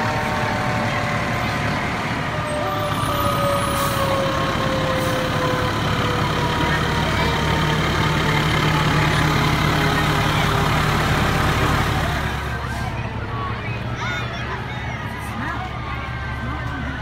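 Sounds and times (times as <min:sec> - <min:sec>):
fire truck diesel engines: 0:00.0 - 0:17.0.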